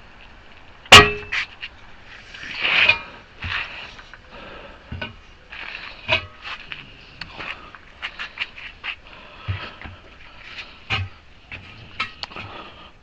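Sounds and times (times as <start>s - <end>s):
tire tool knocking and scraping: 0.9s - 4.2s, 4.8s - 12.7s.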